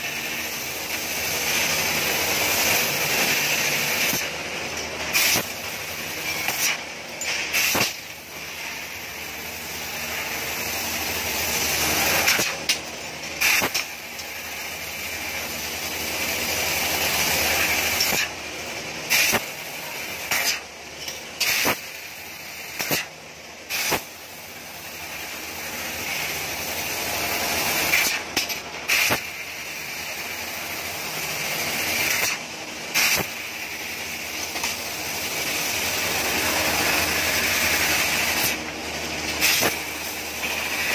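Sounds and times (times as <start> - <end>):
laser cutter gas jet hissing: 0.0 - 40.9.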